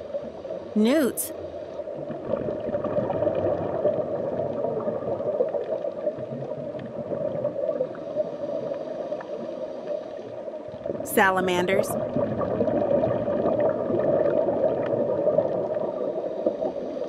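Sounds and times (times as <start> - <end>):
underwater water rush: 1.8 - 11.0, 12.0 - 17.0.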